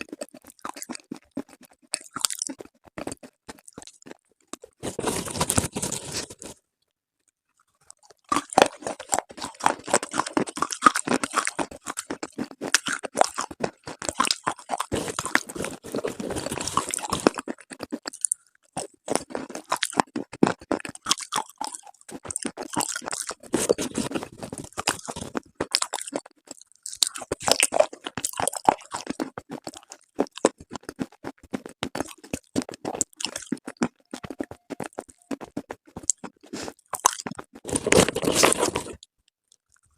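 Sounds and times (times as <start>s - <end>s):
crisp crunching of chewing: 0.0s - 6.6s, 7.6s - 39.9s.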